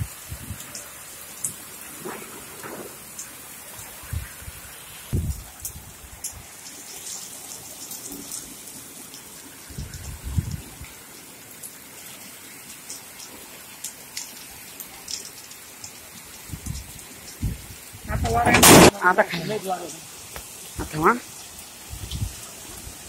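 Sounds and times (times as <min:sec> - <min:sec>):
rain on wet ground and puddles: 0:00.0 - 0:23.0.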